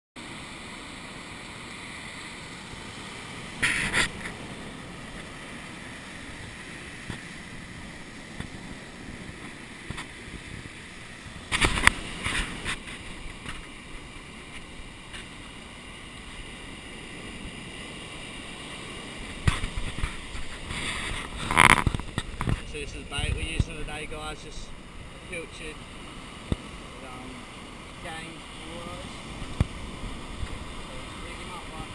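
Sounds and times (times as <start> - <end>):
breaking surf: 0.2 - 31.9
wind: 0.2 - 31.9.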